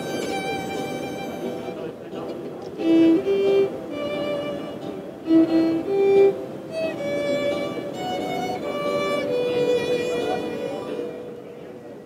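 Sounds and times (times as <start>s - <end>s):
violin melody: 0.0s - 12.0s.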